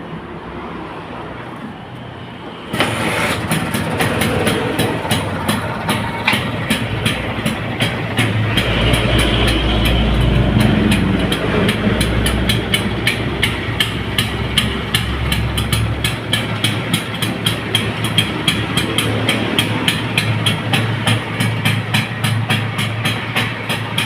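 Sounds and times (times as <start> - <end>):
scooter engine running: 2.7 - 24.0
regular ticking: 3.7 - 24.0.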